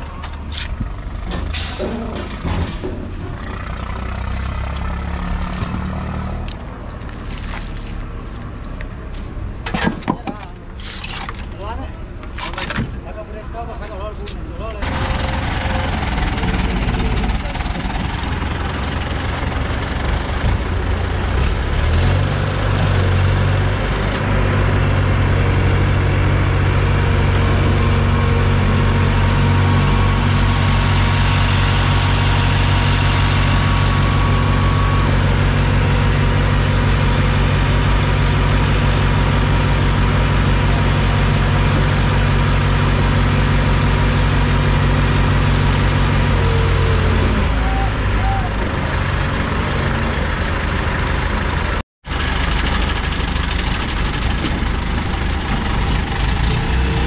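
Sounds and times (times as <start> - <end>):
crane diesel engine running: 0.0 - 9.7, 13.3 - 57.0.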